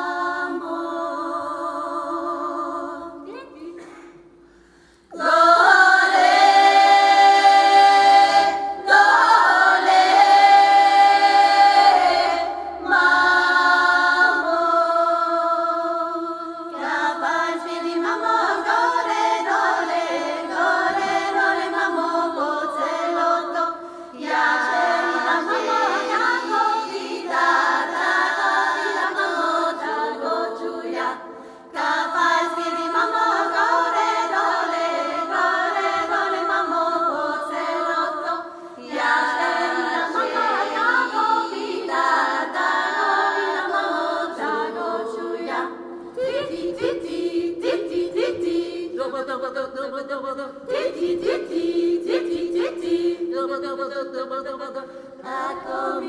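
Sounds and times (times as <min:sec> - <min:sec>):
women's vocal ensemble singing: 0:00.0 - 0:56.0.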